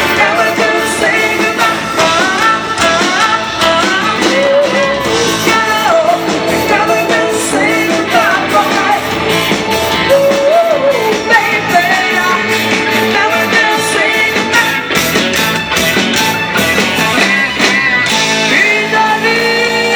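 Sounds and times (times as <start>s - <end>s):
person singing: 0.0s - 15.8s, 16.6s - 19.9s
live rock band playing: 0.0s - 19.9s
steady drum beat: 0.0s - 19.9s.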